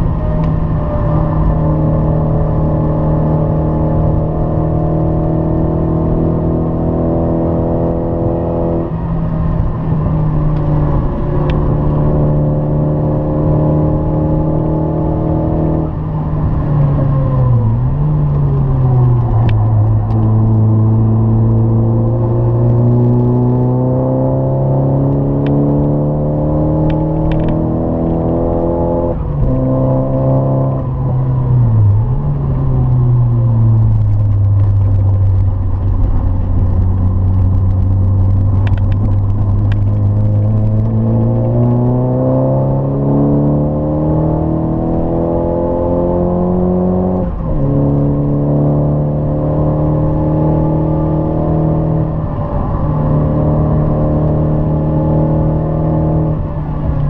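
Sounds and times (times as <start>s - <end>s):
car engine at speed: 0.0s - 57.0s.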